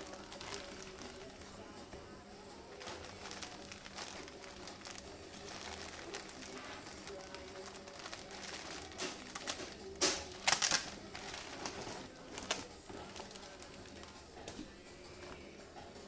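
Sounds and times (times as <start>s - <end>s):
packaging crinkling and tapping: 0.0s - 1.5s, 2.8s - 15.4s.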